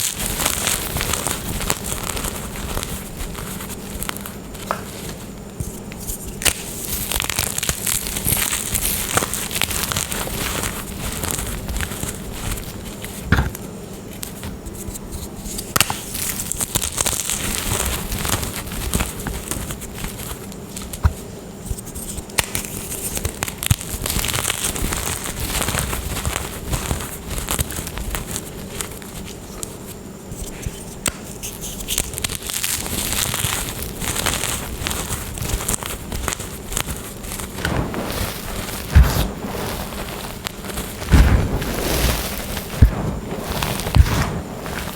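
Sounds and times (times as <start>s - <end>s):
chalk crumbling and crackling: 0.0s - 44.9s.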